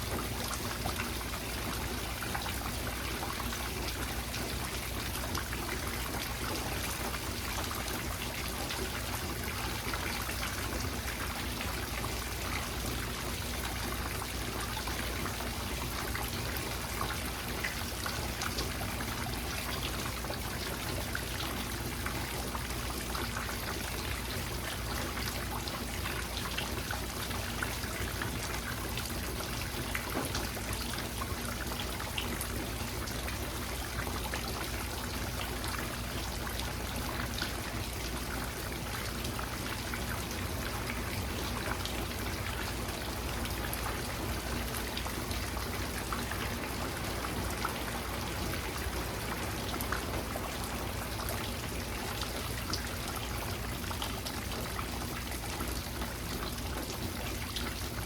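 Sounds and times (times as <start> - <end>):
steady rain: 0.0 - 58.0
water trickling and dripping: 0.0 - 58.0.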